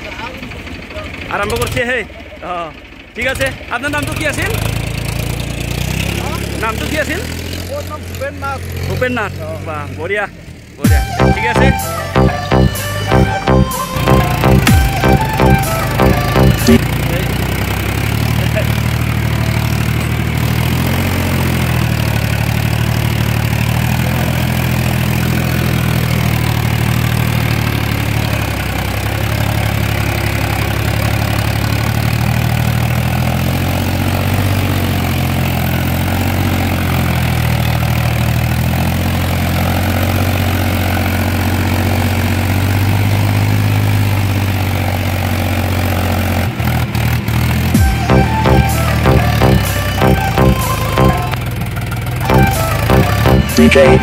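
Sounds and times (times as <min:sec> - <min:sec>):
tractor diesel engine running: 0:00.0 - 0:10.9, 0:11.7 - 0:54.0.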